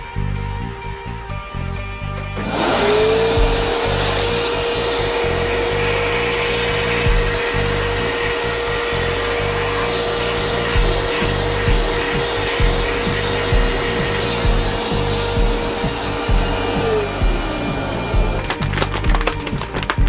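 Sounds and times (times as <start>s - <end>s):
small motor whining: 2.4s - 18.6s.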